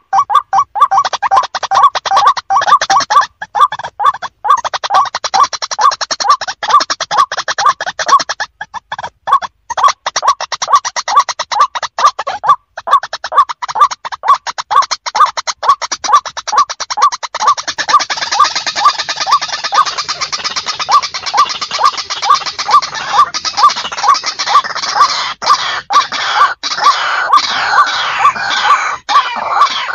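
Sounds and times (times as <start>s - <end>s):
bird calling with rattling clicks: 0.0s - 29.9s.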